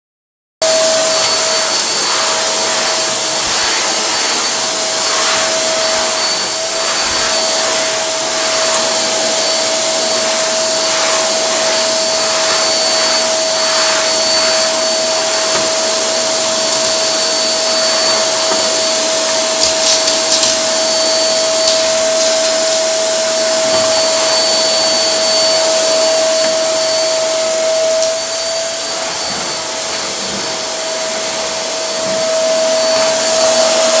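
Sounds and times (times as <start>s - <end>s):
vacuum cleaner running: 0.6s - 34.0s.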